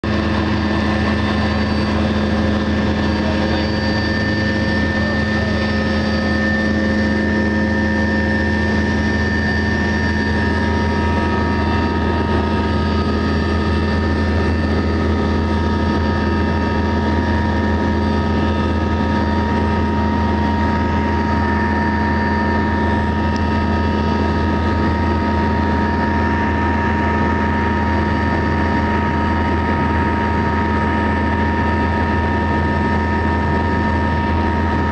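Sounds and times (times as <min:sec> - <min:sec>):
helicopter cabin drone: 0:00.0 - 0:34.9
high turbine whine: 0:00.0 - 0:34.9.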